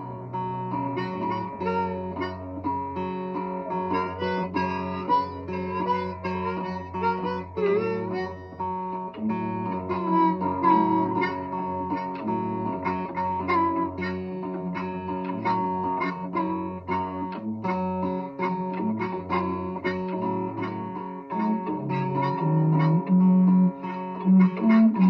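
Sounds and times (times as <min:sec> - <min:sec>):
acoustic guitar picked: 0:00.0 - 0:25.0
harmonica: 0:00.0 - 0:25.0
long low held notes: 0:00.0 - 0:25.0.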